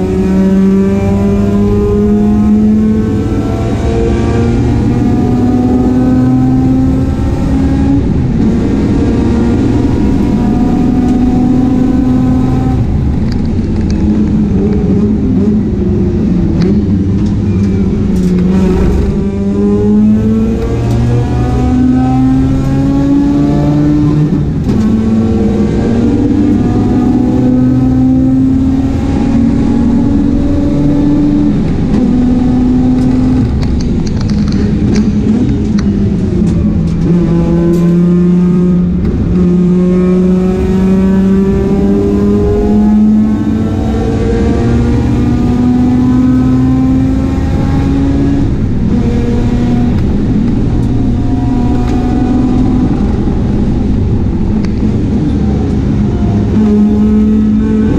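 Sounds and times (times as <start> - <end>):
race car engine accelerating: 0.0 - 57.9.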